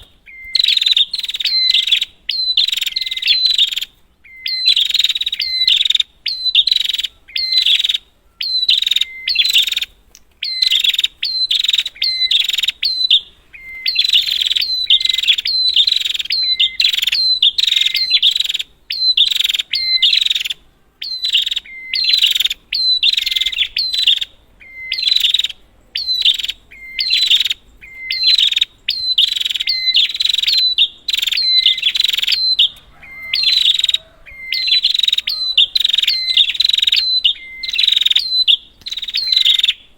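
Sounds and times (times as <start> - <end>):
bird giving buzzy calls: 0.0 - 39.9.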